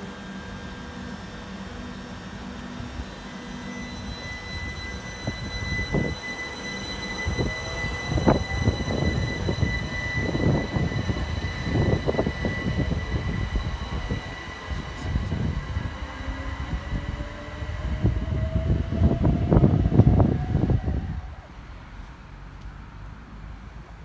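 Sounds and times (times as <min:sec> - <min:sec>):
high electric whine: 0:00.0 - 0:21.6.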